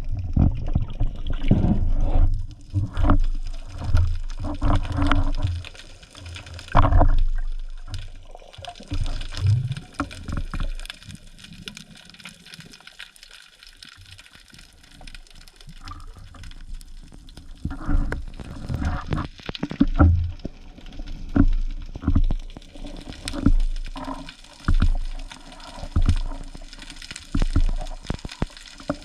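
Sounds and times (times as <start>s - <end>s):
water sloshing and gurgling: 0.0s - 29.0s.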